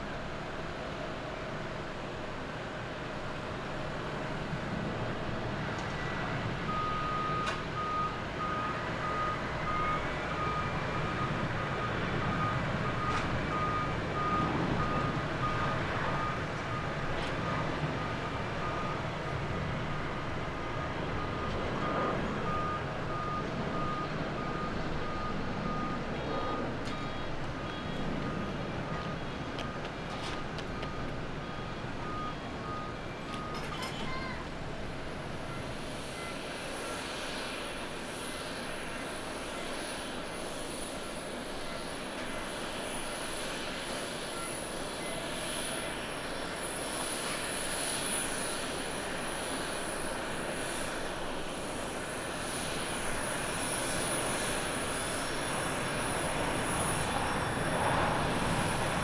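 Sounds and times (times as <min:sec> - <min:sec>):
jet engines roaring at takeoff: 0:00.0 - 0:59.0.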